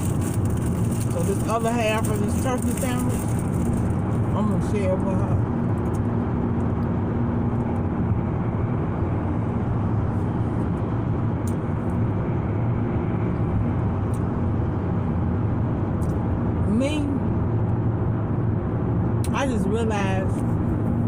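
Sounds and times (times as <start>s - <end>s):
car cabin road and engine noise: 0.0s - 21.0s.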